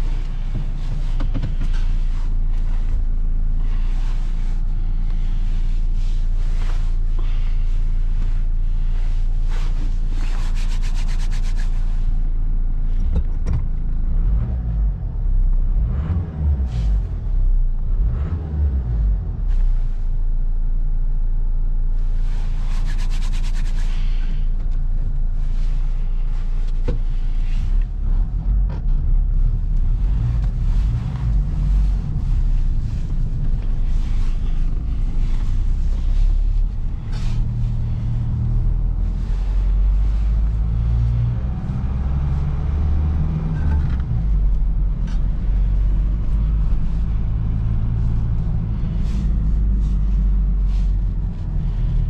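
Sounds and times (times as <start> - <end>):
diesel engine rumbling: 0.0 - 11.0, 11.7 - 52.0.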